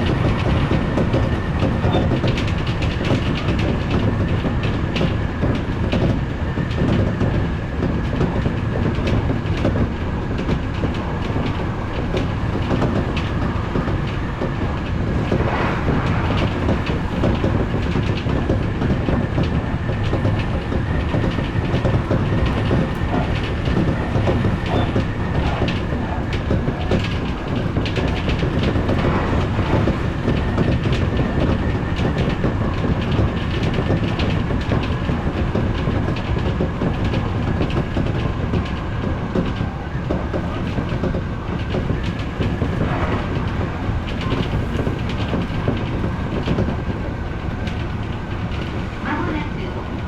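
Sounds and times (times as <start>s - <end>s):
electric train rumbling: 0.0s - 50.0s
rail clicks: 0.0s - 50.0s.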